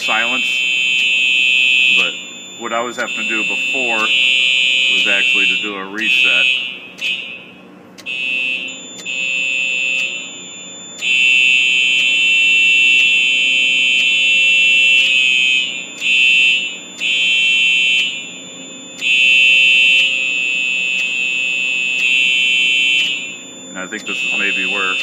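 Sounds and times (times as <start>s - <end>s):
fire alarm horns: 0.0s - 25.0s.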